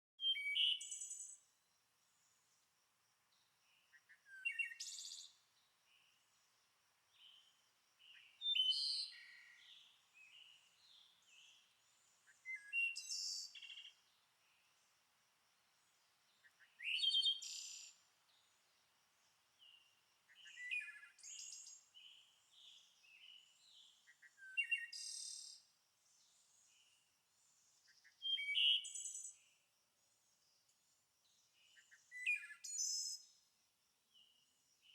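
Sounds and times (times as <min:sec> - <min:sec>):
songbird singing with trill: 0:00.2 - 0:01.5, 0:03.4 - 0:06.3, 0:07.1 - 0:14.9, 0:15.9 - 0:18.8, 0:19.6 - 0:29.6, 0:30.3 - 0:33.5.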